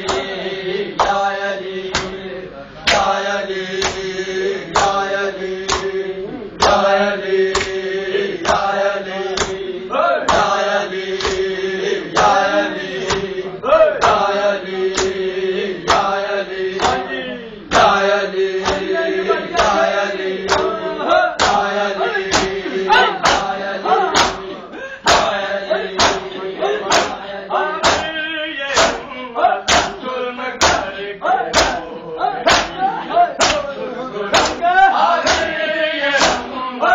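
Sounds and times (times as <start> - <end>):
rhythmic chest-beating slaps: 0.0 - 36.7
men chanting in unison: 0.0 - 36.9.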